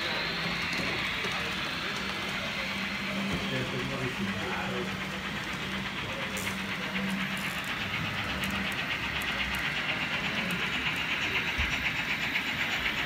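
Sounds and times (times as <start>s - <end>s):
model train clicking and hissing: 0.0s - 13.0s.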